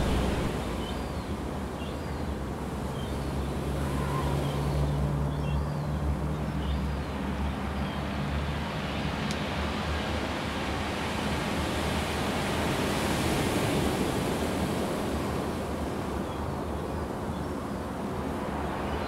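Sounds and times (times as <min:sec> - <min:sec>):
low rumble and wash of sea: 0:00.0 - 0:19.0.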